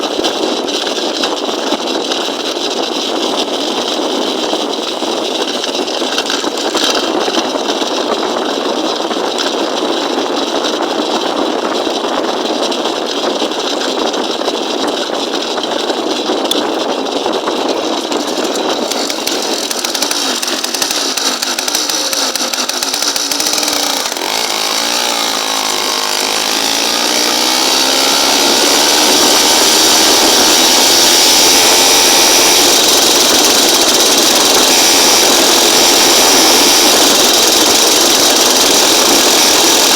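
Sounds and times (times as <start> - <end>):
small bicycle engine buzzing: 0.0 - 9.9, 13.5 - 39.9.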